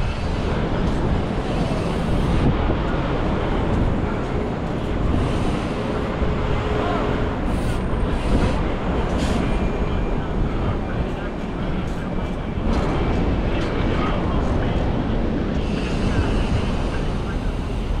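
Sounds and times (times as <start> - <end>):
street traffic: 0.0 - 18.0
wind on microphone: 0.0 - 18.0.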